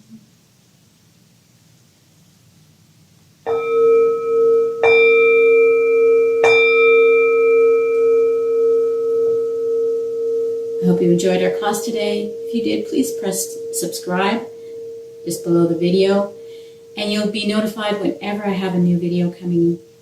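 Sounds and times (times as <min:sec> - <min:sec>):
singing bowl ringing: 0:03.5 - 0:20.0.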